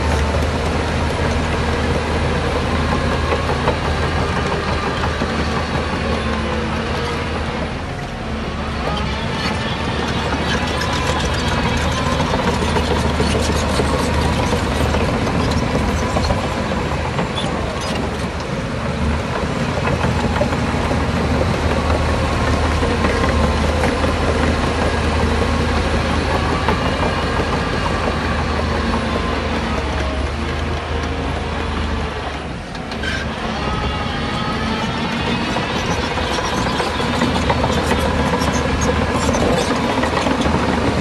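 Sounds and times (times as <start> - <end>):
diesel machinery engine hum: 0.0 - 41.0.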